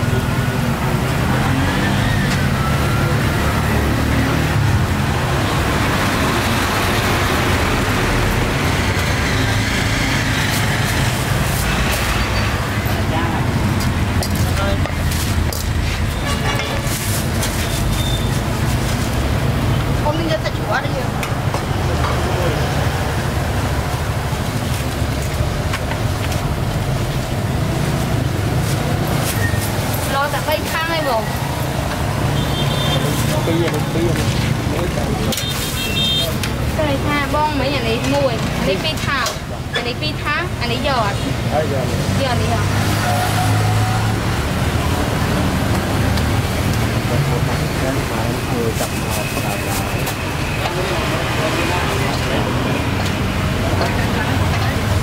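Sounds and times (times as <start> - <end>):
street traffic engines humming: 0.0 - 55.0.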